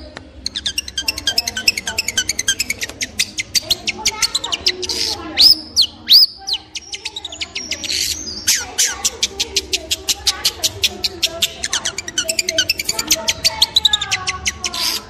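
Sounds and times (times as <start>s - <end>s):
bird chipping notes: 0.0s - 15.0s
bird arched whistles: 0.6s - 15.0s.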